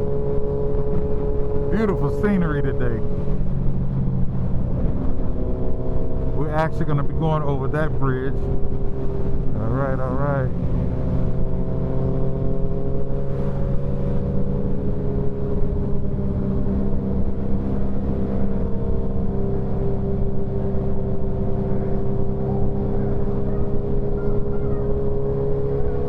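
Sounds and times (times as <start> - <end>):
wind rumble on microphone: 0.0 - 6.6, 8.4 - 26.0
motorcycle engine cruising: 0.0 - 26.0.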